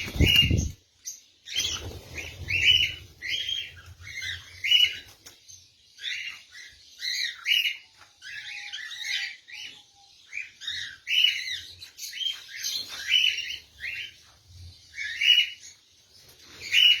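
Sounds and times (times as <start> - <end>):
lovebirds chirping and squawking: 0.0 - 17.0.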